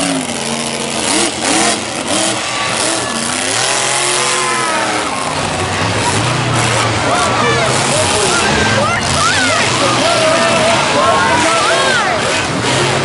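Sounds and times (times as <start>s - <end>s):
race engines revving: 0.0s - 13.0s.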